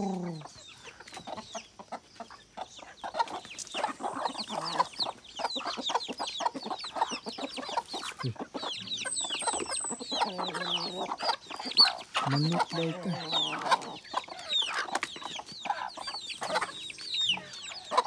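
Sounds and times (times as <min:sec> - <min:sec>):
chicks peeping: 0:00.0 - 0:18.0
hens clucking: 0:00.0 - 0:18.0.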